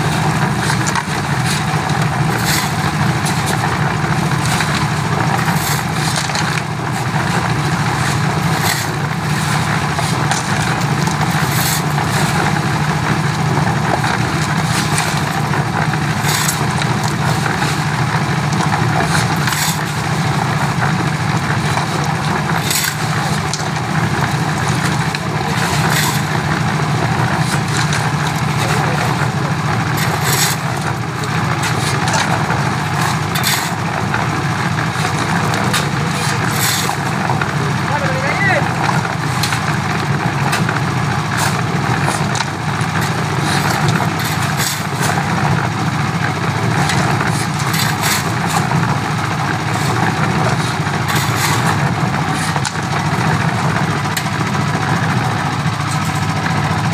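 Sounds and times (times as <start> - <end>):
concrete mixer running: 0.0 - 56.9
gravel shoveled in clattering: 0.0 - 56.9
gravel tumbling in drum: 0.0 - 56.9.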